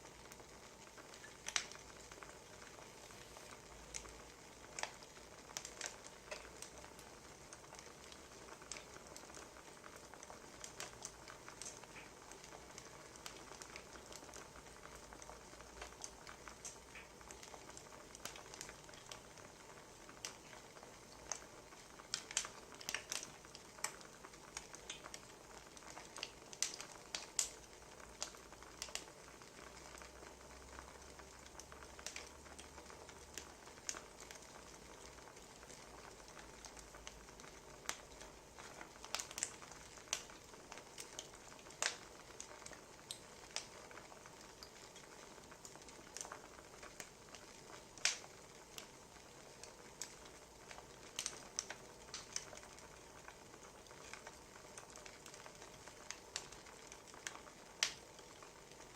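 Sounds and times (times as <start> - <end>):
faint steady hiss: 0.0 - 58.9
wood fire crackling: 0.0 - 58.9.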